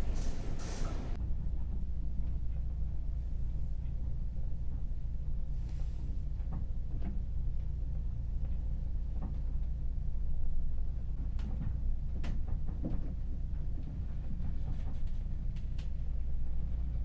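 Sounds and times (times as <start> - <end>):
low rumble of ship engines: 0.0 - 17.0.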